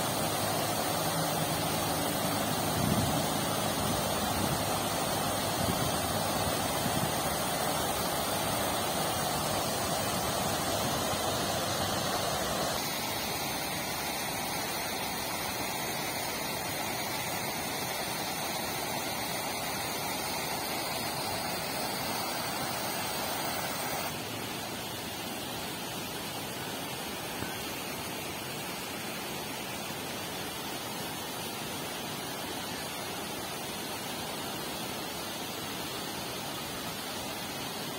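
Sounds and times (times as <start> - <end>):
fountain water splashing: 0.0 - 37.9.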